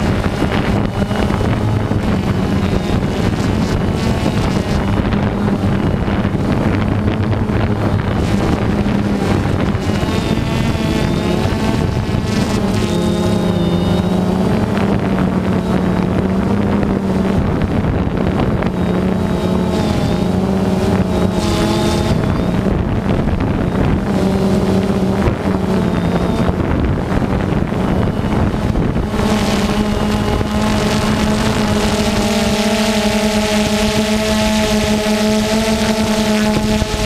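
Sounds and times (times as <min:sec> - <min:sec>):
drone propellers buzzing: 0:00.0 - 0:37.0
wind rushing over microphone: 0:00.0 - 0:37.0.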